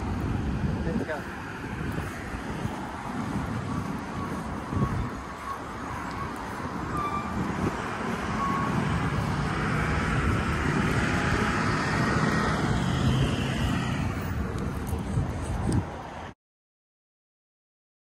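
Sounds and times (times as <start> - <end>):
engine passing: 0.0 - 16.3.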